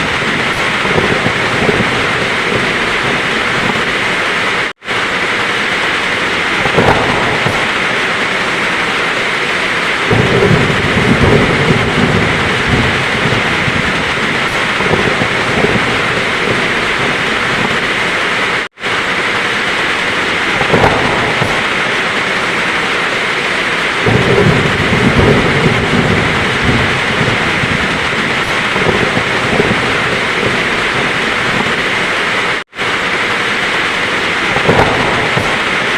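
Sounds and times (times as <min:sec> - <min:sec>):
heavy rain falling: 0:00.0 - 0:35.9
thunder rolling: 0:00.0 - 0:35.9.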